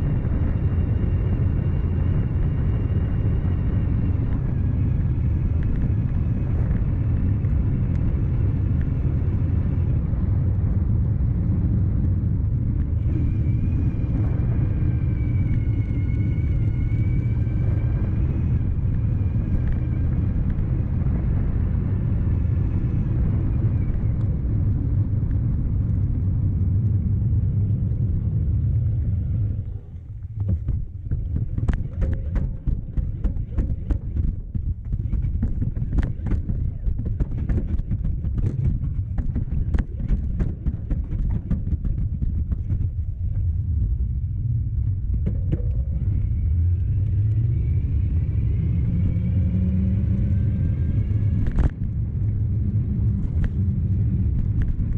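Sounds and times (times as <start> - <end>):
e-bike rumble: 0.0 - 54.9
high motor whine: 0.0 - 54.9.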